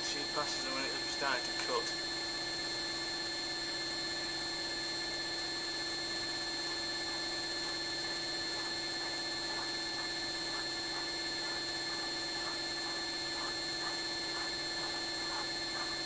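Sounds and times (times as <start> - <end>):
milling machine hum with high whine: 0.0 - 16.0.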